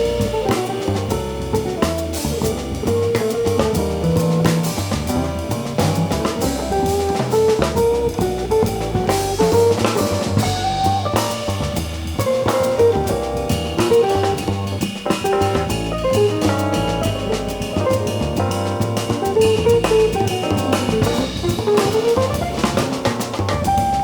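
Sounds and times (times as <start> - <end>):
guitar melody: 0.0 - 24.0
jazz band playing: 0.0 - 24.0.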